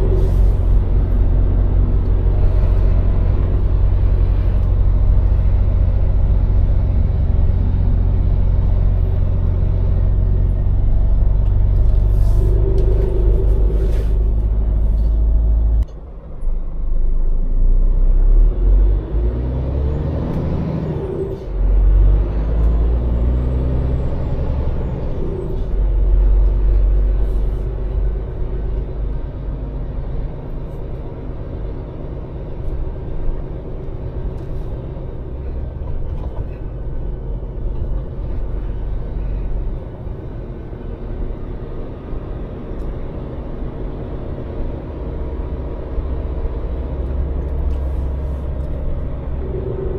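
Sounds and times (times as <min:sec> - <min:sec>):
lorry diesel engine rumble: 0:00.0 - 0:49.9.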